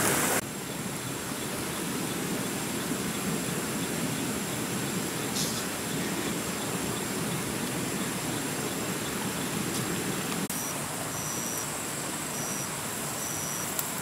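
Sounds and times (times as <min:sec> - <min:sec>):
steady forest hiss: 0:00.0 - 0:14.0
high insect drone: 0:00.1 - 0:14.0
insect chirping in short pulses: 0:00.4 - 0:14.0.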